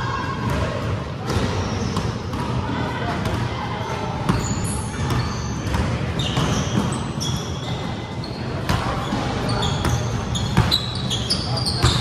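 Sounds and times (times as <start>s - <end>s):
sneakers squeaking on court: 1.2s - 12.0s.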